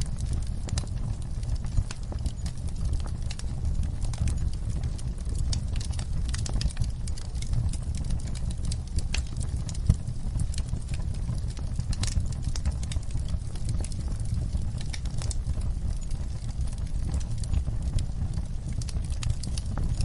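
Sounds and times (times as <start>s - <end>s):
fire crackling and snapping: 0.0s - 20.0s
fire flames rumbling: 0.0s - 20.0s.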